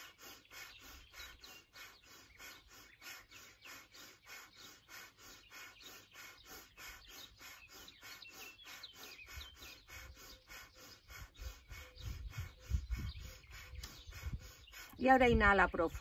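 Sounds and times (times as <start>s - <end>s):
birds chirping: 0.0s - 16.0s
rapid puffs of breath: 0.0s - 16.0s.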